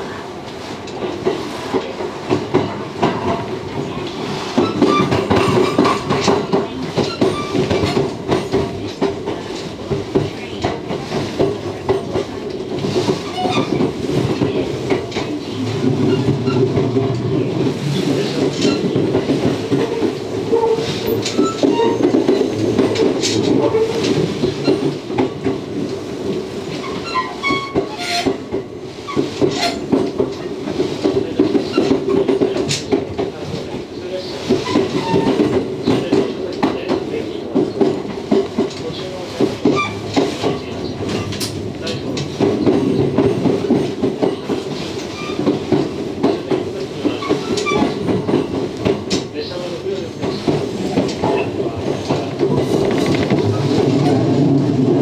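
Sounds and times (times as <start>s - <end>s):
train running rumble: 0.0s - 55.0s
wheels clicking over rail joints: 0.8s - 55.0s.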